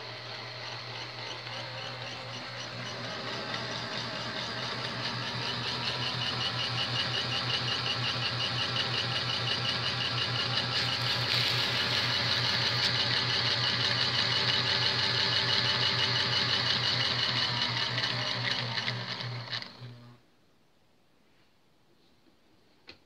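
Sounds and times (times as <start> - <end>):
model train motor whirring: 0.0 - 20.1.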